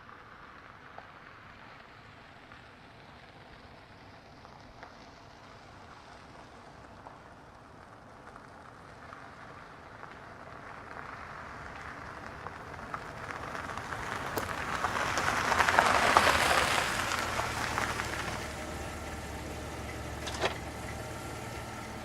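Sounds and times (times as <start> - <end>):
car tyres crunching over gravel: 0.9 - 22.0.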